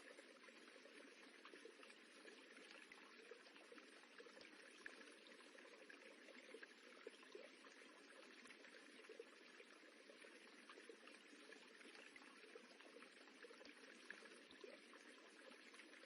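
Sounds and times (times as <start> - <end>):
rippling running water: 0.0 - 16.0.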